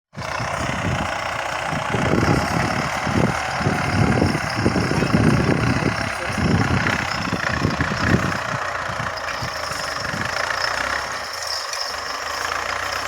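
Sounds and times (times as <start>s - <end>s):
tractor engine running: 0.1s - 13.0s.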